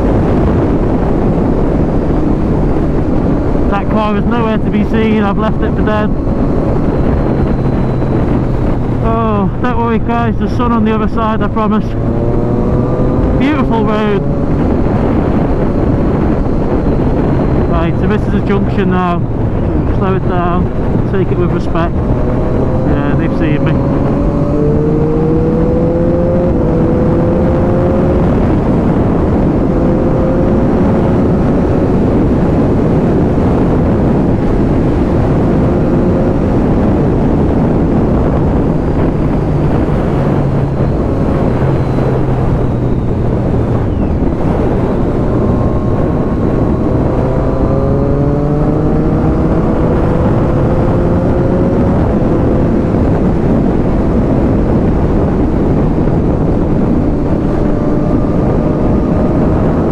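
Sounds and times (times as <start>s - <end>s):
motorcycle engine accelerating: 0.0s - 59.9s
wind noise on microphone: 0.0s - 59.9s.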